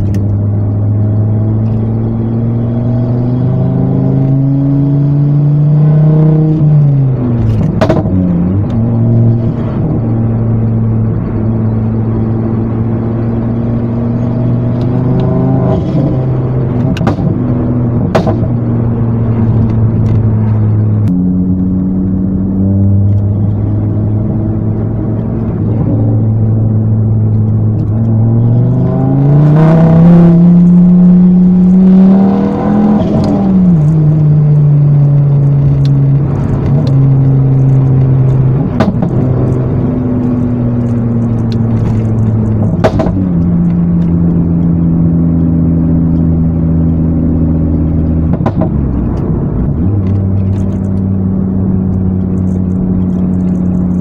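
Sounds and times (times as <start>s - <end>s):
car engine while driving: 0.0s - 54.0s.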